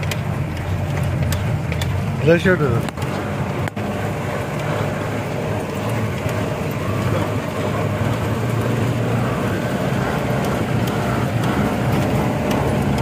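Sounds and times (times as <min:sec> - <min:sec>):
car engine running: 0:00.0 - 0:13.0
road noise rumbling: 0:00.0 - 0:13.0.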